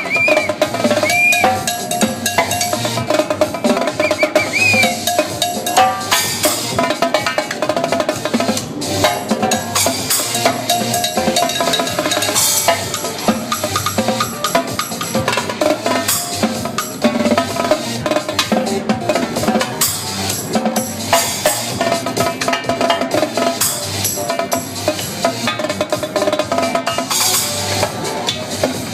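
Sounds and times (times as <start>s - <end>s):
dance music track: 0.0s - 28.9s
drum kit playing fast beat: 0.0s - 28.9s.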